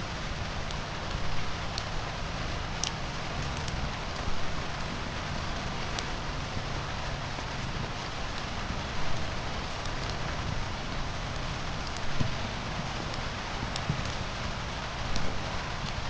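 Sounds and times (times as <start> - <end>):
steady rain falling: 0.0 - 16.0
sharp crackles: 0.1 - 16.0.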